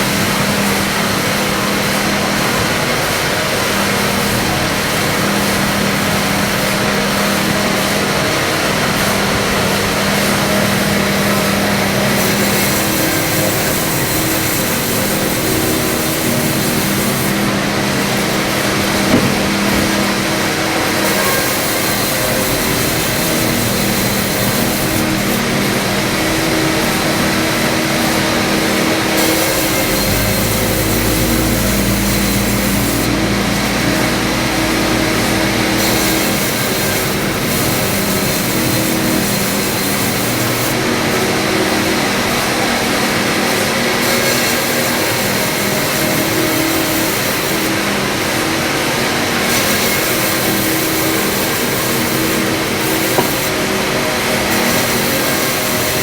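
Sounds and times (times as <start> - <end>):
wood-processing machine sawing: 0.0 - 56.0.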